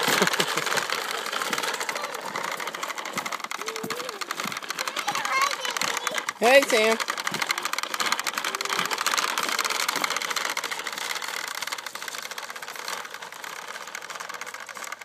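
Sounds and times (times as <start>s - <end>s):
toy lawnmower clattering: 0.0s - 15.0s.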